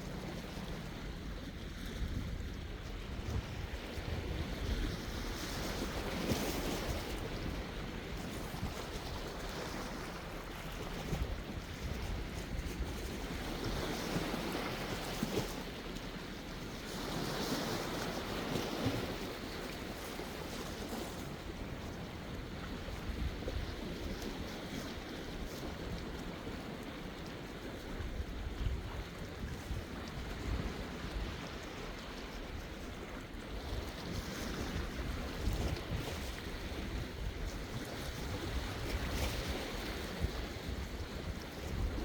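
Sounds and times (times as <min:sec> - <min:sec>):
wind rumbling on microphone: 0:00.0 - 0:16.0, 0:16.7 - 0:42.0
sea waves washing on shore: 0:00.0 - 0:42.0.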